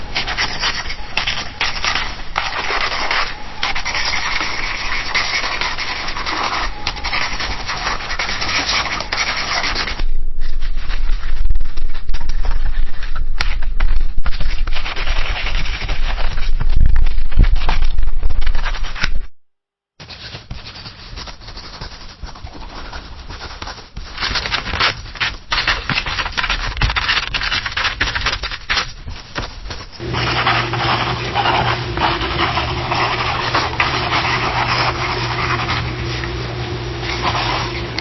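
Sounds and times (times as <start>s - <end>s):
pencil scratching on paper: 0.0s - 13.0s, 14.3s - 17.9s, 20.0s - 28.9s, 30.0s - 38.0s.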